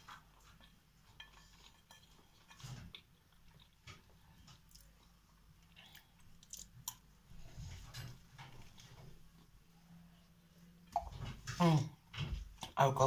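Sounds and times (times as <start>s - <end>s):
soft chewing: 0.0s - 11.3s.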